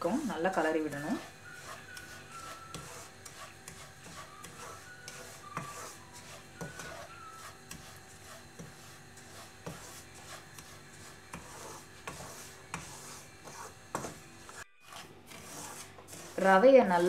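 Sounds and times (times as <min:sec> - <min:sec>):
wooden spatula scraping a pan: 0:00.1 - 0:17.0.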